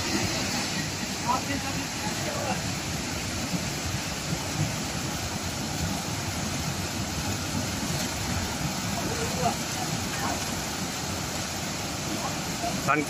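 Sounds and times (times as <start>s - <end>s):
water rushing into a channel: 0.0s - 13.0s.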